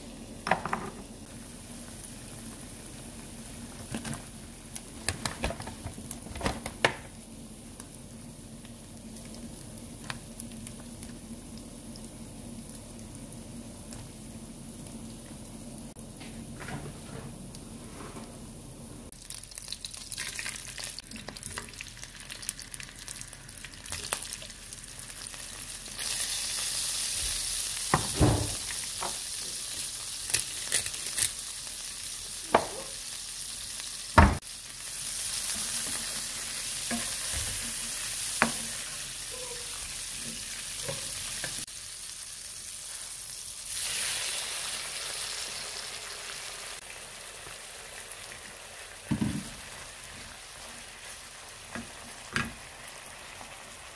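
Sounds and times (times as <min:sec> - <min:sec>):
oil sizzling in a frying pan: 0:00.0 - 0:16.0, 0:19.1 - 0:53.9.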